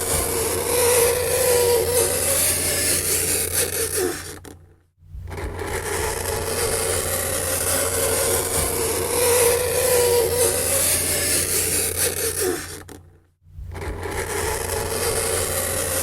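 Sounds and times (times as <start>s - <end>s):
fingernails scraping a chalkboard: 0.0s - 4.5s, 5.4s - 13.1s, 13.8s - 16.0s.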